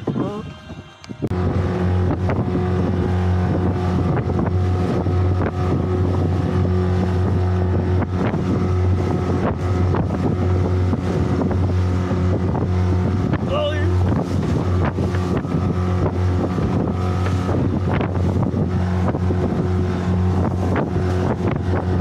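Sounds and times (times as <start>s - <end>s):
outboard motor drone: 0.0s - 22.0s
wind buffeting microphone: 0.0s - 22.0s
hull pounding through waves: 1.3s - 22.0s.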